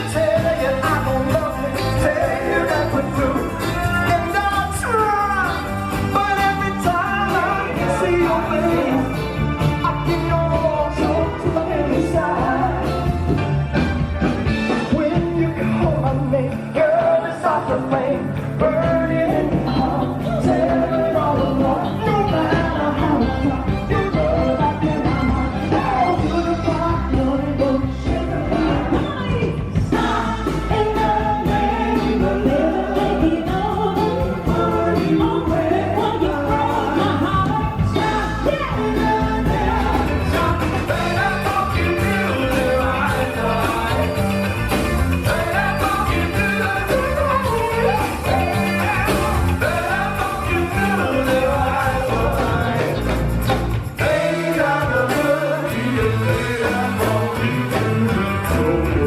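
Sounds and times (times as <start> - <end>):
person singing: 0.0 - 13.4, 14.7 - 53.3, 53.9 - 59.0
live band playing soul music: 0.0 - 59.0.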